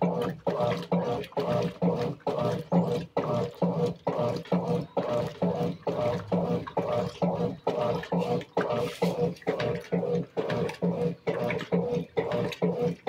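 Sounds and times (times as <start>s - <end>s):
washing machine motor pulsing: 0.0s - 13.0s
water sloshing: 0.0s - 13.0s.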